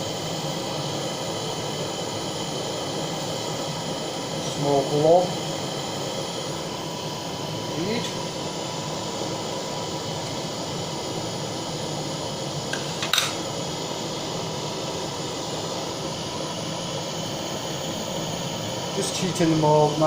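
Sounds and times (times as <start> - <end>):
blowtorch flame hissing: 0.0 - 20.0.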